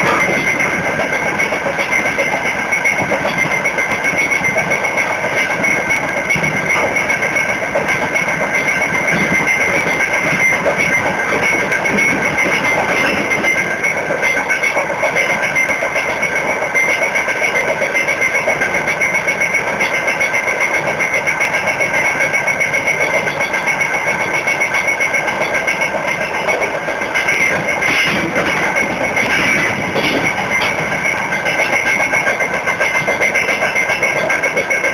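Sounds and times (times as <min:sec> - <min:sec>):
freight train rumble: 0:00.0 - 0:34.9
high whine: 0:00.0 - 0:34.9
train wheels clattering on rails: 0:00.0 - 0:34.9.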